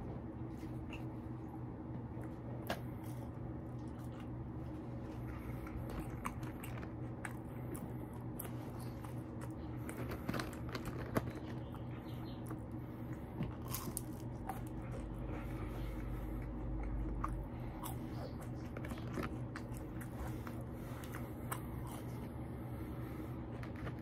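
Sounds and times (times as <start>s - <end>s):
chewing crunchy fries: 0.0s - 24.0s
steady hum: 0.0s - 24.0s.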